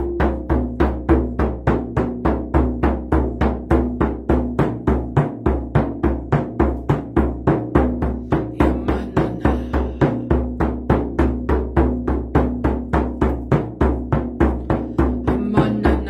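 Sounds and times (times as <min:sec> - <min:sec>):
frame drum beats: 0:00.0 - 0:16.0.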